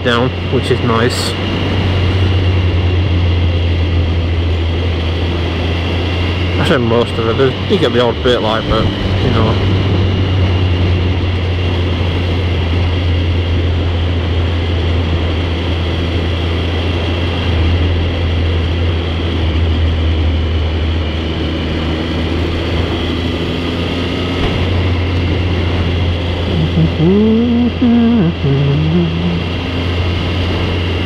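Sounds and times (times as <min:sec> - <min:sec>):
motorcycle engine cruising: 0:00.0 - 0:31.0
wind and road noise: 0:00.0 - 0:31.0.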